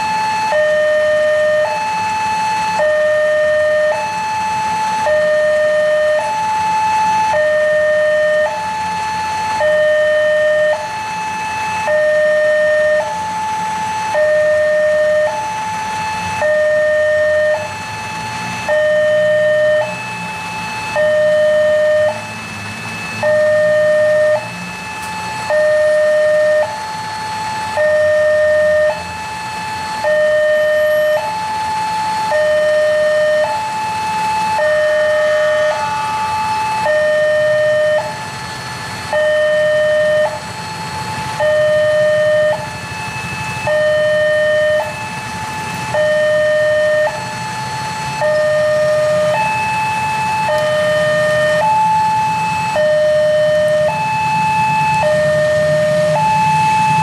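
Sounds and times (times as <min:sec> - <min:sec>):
level-crossing two-tone alarm: 0:00.0 - 0:57.0.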